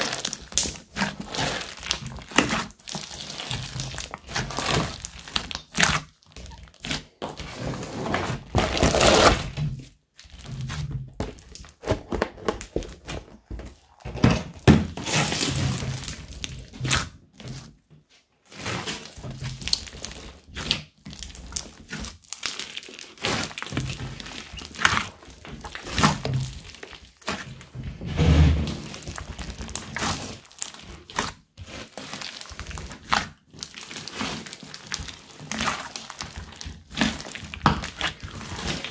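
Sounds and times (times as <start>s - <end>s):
slime squelching: 0.0s - 38.9s.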